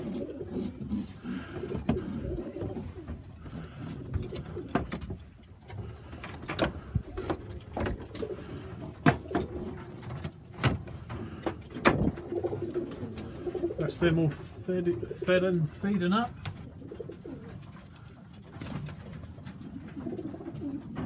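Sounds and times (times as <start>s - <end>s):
pigeons cooing: 0.0s - 15.7s, 16.3s - 21.0s
pigeons pecking feed: 0.0s - 21.0s.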